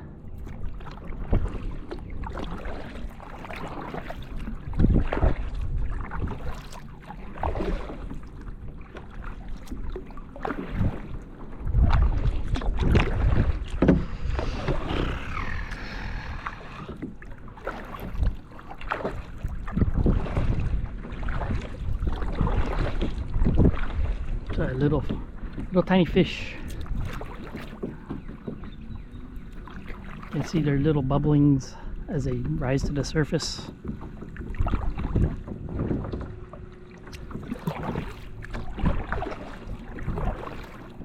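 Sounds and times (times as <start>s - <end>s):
wind rumbling on microphone: 0.0s - 41.0s
paddle splashing in water: 0.3s - 41.0s.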